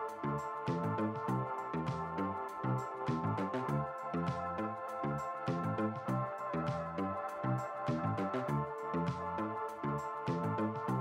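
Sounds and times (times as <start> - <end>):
electronic music with bass line: 0.0 - 11.0.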